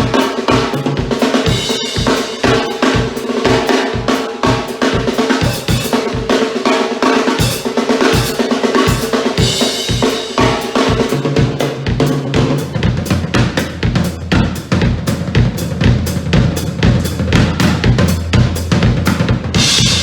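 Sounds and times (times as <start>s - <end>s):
drum kit played loudly: 0.0s - 20.0s.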